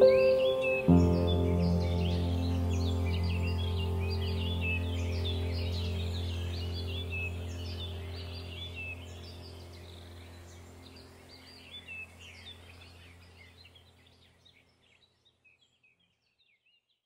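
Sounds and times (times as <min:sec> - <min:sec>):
steady low hum: 0:00.0 - 0:14.0
songbirds chirping and warbling: 0:00.0 - 0:17.0.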